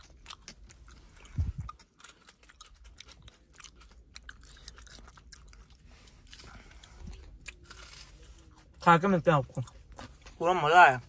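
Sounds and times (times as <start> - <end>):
crisp crunching of chewing: 0.0 - 11.0.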